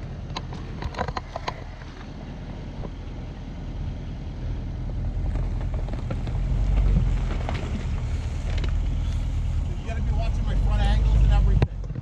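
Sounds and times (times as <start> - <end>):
suv engine running: 0.0 - 12.0
stones crackling under tyres: 0.1 - 3.0, 4.8 - 12.0.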